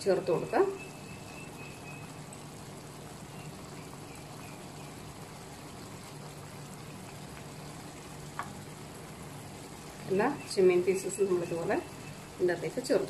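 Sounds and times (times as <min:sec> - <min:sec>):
gravy bubbling in a pan: 0:00.0 - 0:13.0.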